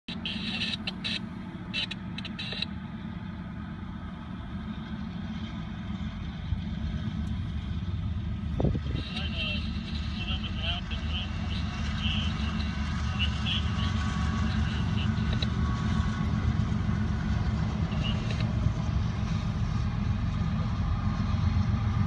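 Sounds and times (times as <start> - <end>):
low engine rumble: 0.1 - 22.0.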